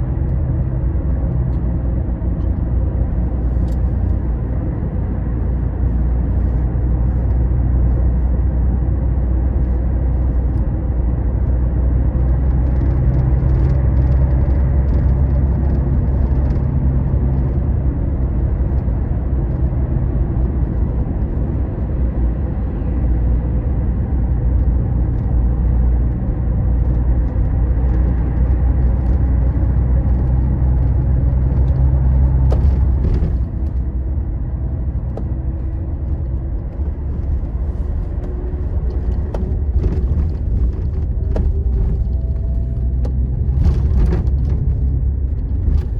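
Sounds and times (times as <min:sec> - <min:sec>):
bus engine and road drone: 0:00.0 - 0:45.9.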